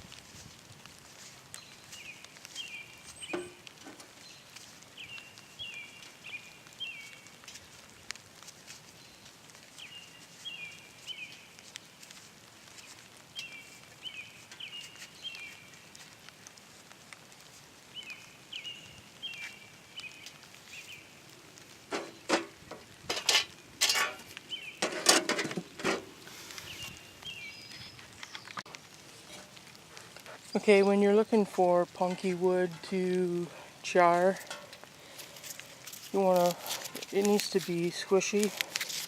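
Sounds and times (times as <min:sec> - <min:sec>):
faint steady hiss: 0:00.0 - 0:39.0
songbird chirping: 0:01.2 - 0:08.1, 0:08.9 - 0:16.2, 0:17.8 - 0:39.0.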